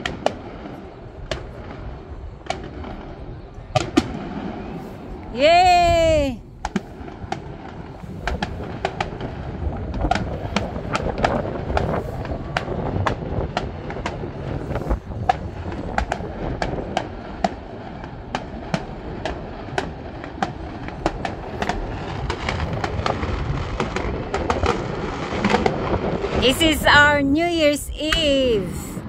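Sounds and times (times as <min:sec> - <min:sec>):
distant fireworks pops and bangs: 0:00.0 - 0:27.1
steady low rumble: 0:00.0 - 0:29.0.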